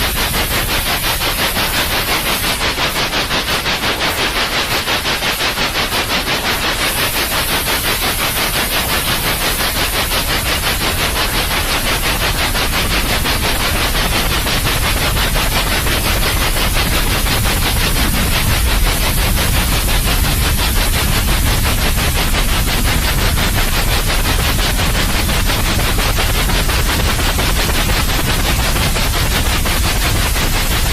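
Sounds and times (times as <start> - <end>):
pulsing white noise hiss: 0.0 - 30.9.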